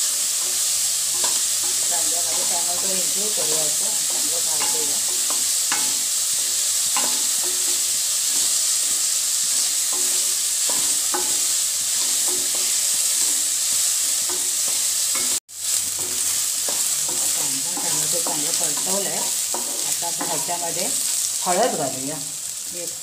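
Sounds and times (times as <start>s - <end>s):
onion and tomato sizzling in oil: 0.0s - 23.0s.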